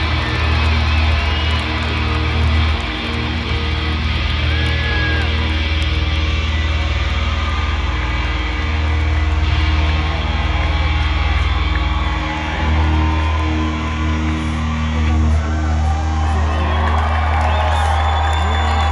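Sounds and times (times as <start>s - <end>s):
distorted electric guitars: 0.0s - 18.9s
drums: 0.0s - 18.9s.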